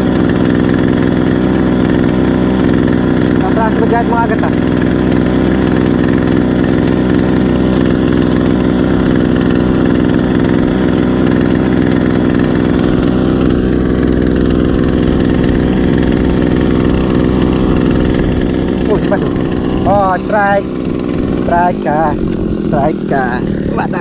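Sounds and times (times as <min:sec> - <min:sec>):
outboard motor droning: 0:00.0 - 0:24.0.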